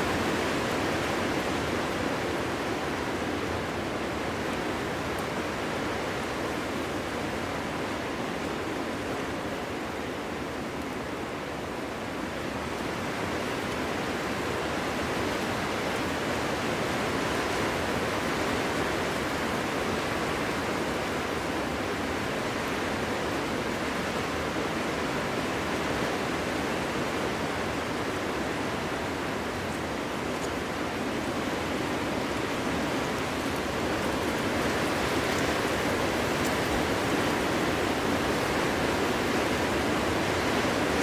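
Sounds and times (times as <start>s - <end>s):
wind through forest: 0.0s - 41.0s.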